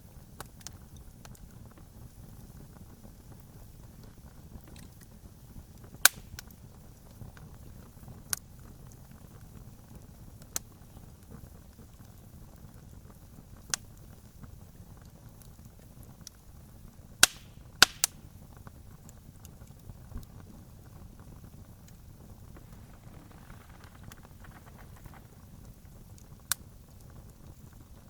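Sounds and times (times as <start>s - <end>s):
wood campfire crackling and popping: 0.1s - 28.0s.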